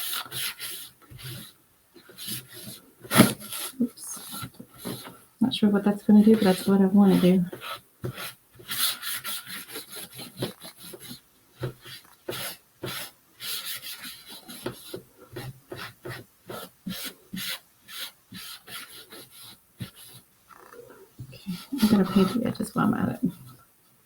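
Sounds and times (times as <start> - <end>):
wiping strokes on wood: 0.0 - 20.3, 21.2 - 23.6.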